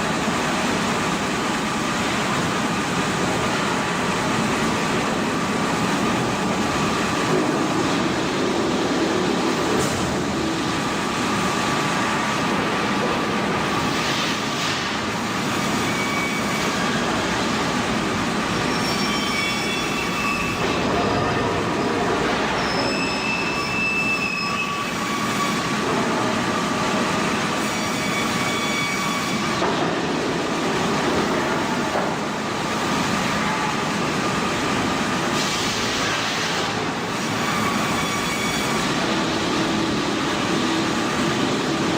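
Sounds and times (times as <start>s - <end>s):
wood-sawing machinery running: 0.0s - 41.9s.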